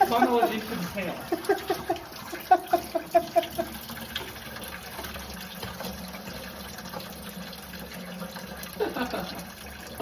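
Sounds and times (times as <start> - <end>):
coolant glugging and draining: 0.0 - 10.0.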